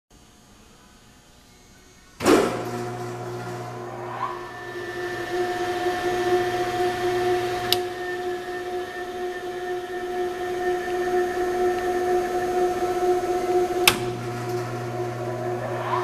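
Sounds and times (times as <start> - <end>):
mixer motor hum and whine: 2.2 - 16.0.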